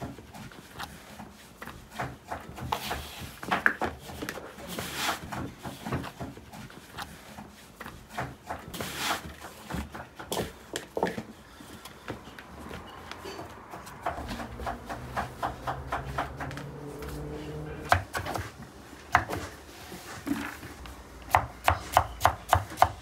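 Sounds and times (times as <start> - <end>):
hands kneading dough: 0.0 - 23.0.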